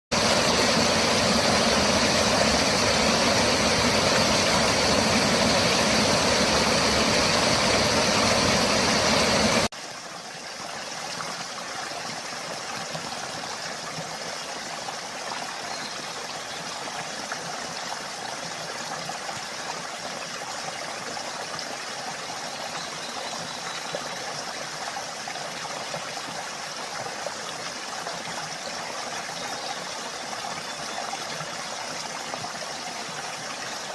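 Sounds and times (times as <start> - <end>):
stream water rushing over rocks: 0.1 - 33.9.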